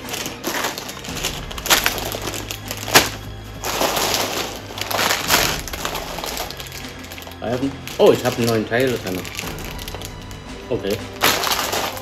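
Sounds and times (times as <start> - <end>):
background music: 0.0 - 12.0
plastic bags of bricks crinkling: 0.0 - 12.0.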